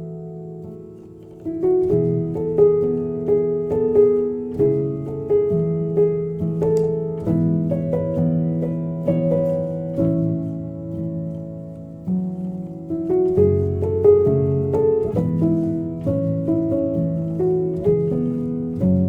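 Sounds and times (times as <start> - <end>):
calm solo piano piece: 0.0 - 19.0.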